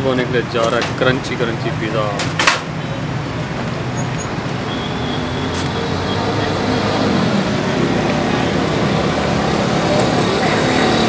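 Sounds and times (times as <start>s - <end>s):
busy road traffic: 0.0s - 11.0s.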